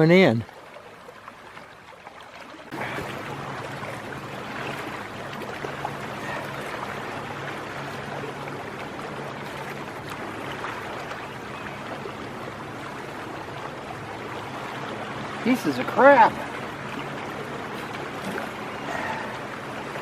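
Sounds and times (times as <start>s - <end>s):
tide washing along shore: 0.0s - 20.0s.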